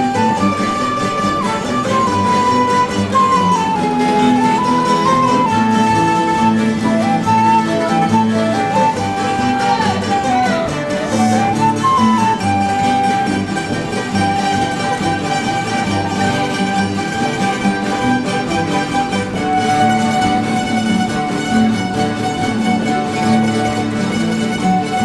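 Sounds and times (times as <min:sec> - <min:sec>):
held melody line: 0:00.0 - 0:25.0
plucked strings accompaniment: 0:00.0 - 0:25.0.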